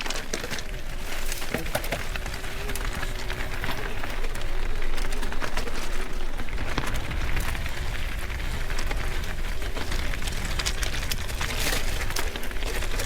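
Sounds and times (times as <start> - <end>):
bike rattling and knocking: 0.0 - 13.0
bike tyre noise: 0.0 - 13.0.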